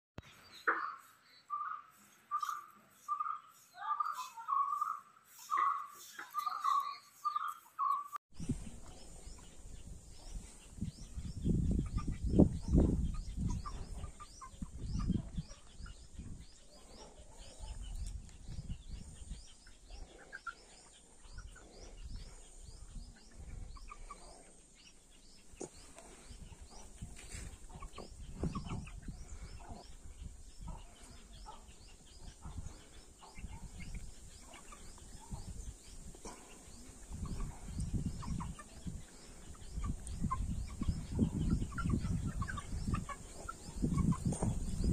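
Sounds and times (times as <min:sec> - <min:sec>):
chicks peeping: 0:00.5 - 0:44.9.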